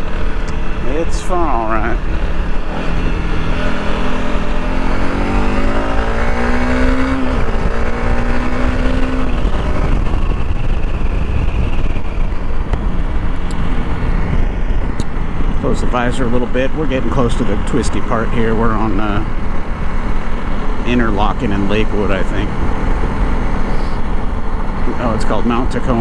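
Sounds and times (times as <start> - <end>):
wind rush: 0.0 - 18.1, 19.2 - 26.0
motorcycle engine accelerating: 0.0 - 26.0.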